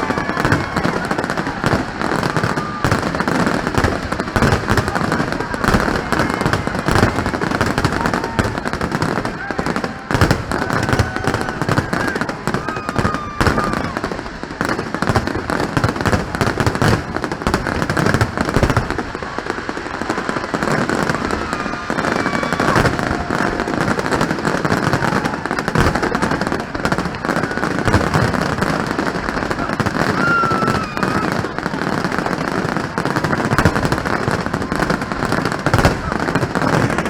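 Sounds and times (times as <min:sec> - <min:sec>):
faint fireworks whistling: 0:00.0 - 0:37.0
fireworks bangs and crackling: 0:00.0 - 0:37.0.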